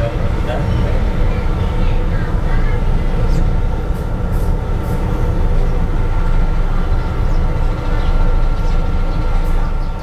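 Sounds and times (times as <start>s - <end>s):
electric train rumble: 0.0s - 10.0s.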